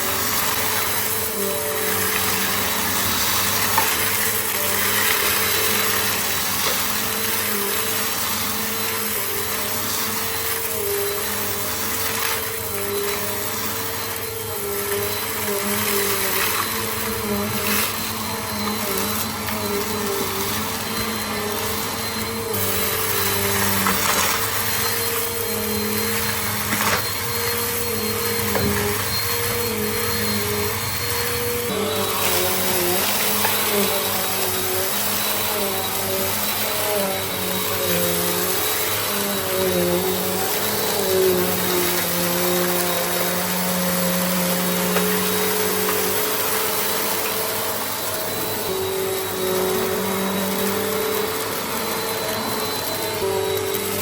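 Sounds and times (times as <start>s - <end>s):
vacuum cleaner motor hum: 0.0s - 54.0s.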